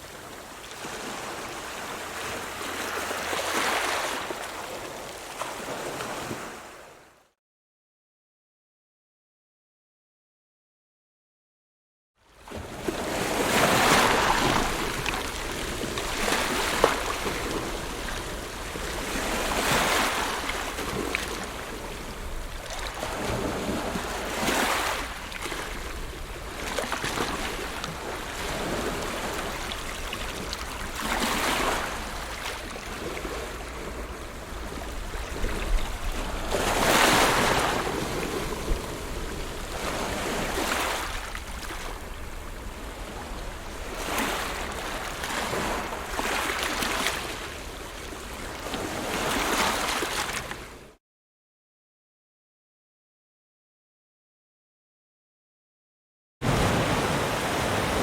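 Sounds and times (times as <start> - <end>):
ocean waves breaking: 0.0 - 7.0, 12.5 - 50.8, 56.4 - 58.0.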